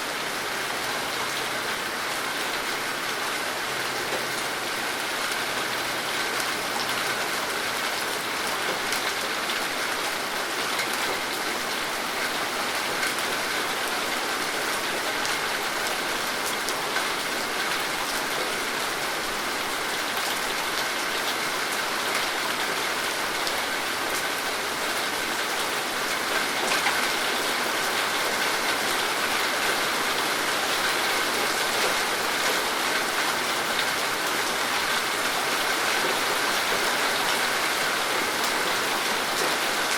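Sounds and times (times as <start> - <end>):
rain falling: 0.0 - 39.9
raindrops ticking on surfaces: 0.6 - 39.9.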